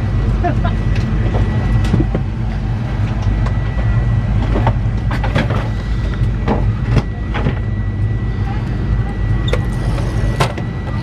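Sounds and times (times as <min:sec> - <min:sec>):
airliner cabin hum: 0:00.0 - 0:11.0.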